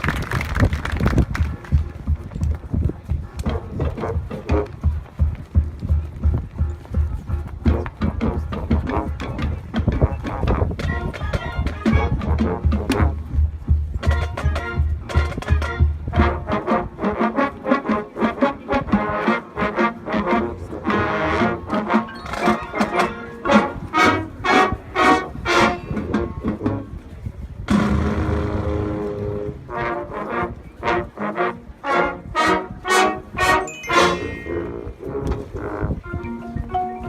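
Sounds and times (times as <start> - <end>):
marching band playing: 0.0 - 37.0
brass rhythmic hits: 3.0 - 37.0.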